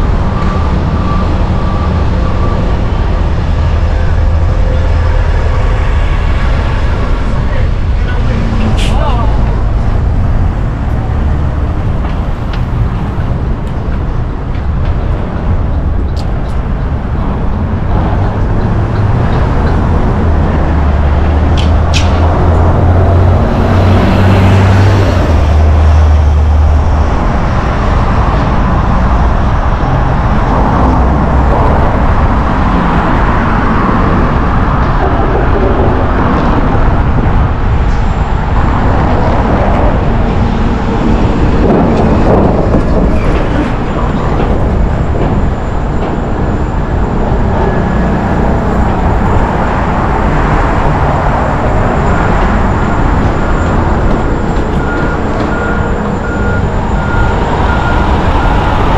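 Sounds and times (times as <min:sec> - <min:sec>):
cars and buses passing: 0:00.0 - 0:58.9
low traffic rumble: 0:00.0 - 0:58.9.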